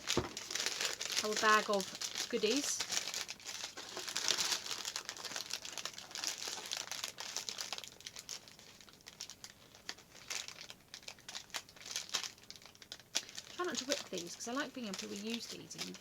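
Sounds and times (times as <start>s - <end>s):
paper bag crinkling: 0.0s - 16.0s.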